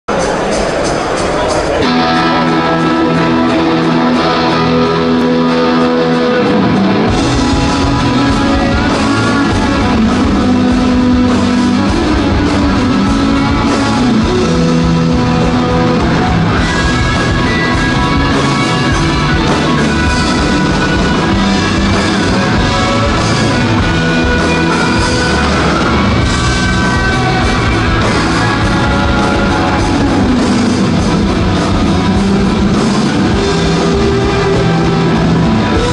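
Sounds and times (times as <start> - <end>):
electric guitars: 0.1 - 35.9
live rock band playing: 0.1 - 35.9.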